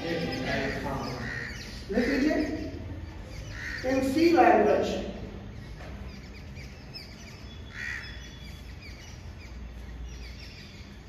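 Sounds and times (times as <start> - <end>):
loud bird call: 0.0 - 4.4, 5.2 - 11.0
small birds chirping: 0.0 - 11.0
steady low hum: 0.0 - 11.0.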